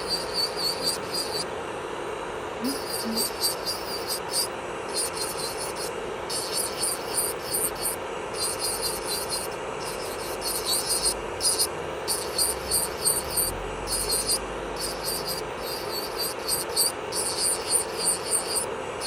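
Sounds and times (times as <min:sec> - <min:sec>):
drill bit grinding on nail: 0:00.0 - 0:01.5, 0:02.6 - 0:18.7
electric nail drill humming: 0:00.0 - 0:01.5, 0:02.6 - 0:18.7.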